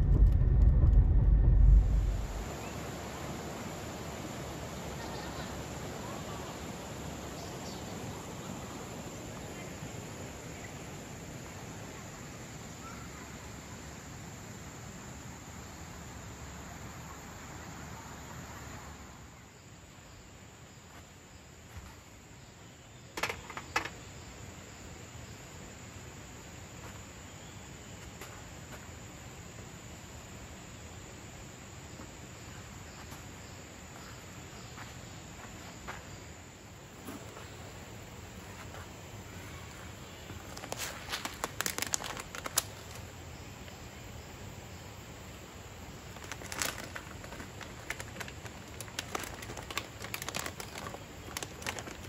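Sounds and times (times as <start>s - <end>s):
high-pitched insect chorus: 1.9s - 52.0s.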